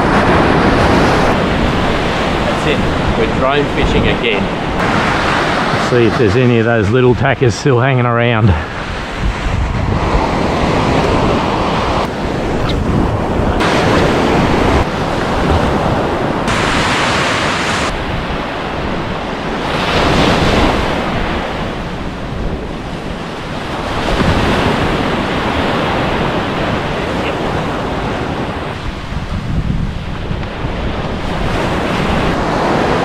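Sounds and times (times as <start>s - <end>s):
waves washing in: 0.0s - 33.0s
wind buffeting microphone: 0.0s - 33.0s.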